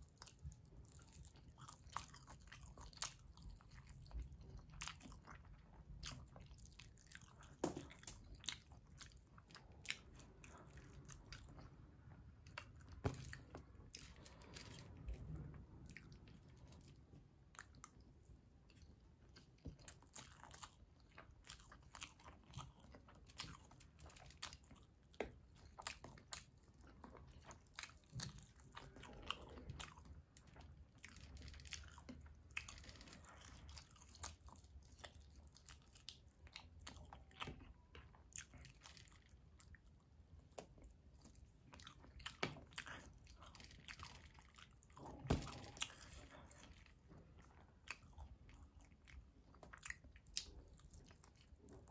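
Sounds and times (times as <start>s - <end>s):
person chewing: 0.0s - 51.9s.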